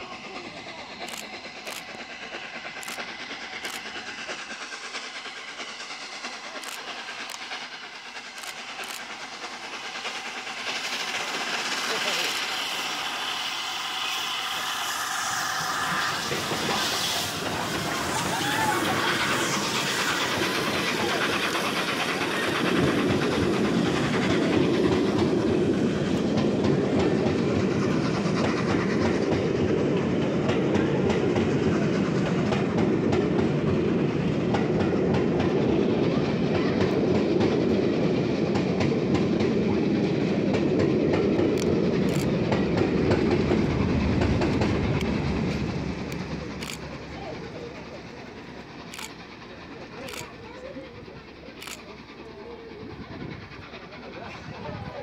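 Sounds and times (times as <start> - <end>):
steam locomotive hiss: 0.0 - 55.0
train wheels rumbling and clattering: 0.0 - 55.0.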